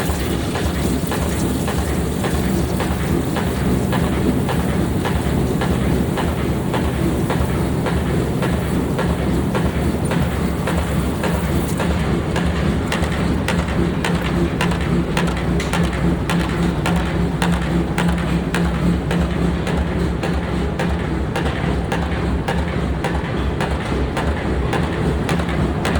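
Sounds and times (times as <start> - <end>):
low machine hum: 0.0 - 25.9
power hammer striking steel: 0.0 - 25.9.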